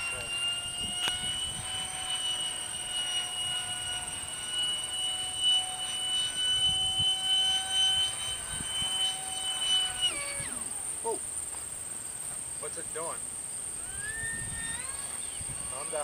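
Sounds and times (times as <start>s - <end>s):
electric ducted fan whine: 0.0s - 16.0s.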